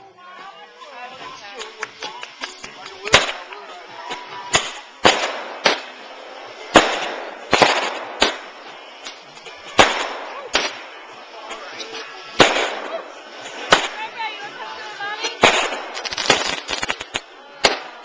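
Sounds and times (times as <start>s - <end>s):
fireworks hissing and crackling: 0.0s - 18.0s
fireworks banging: 0.7s - 18.0s.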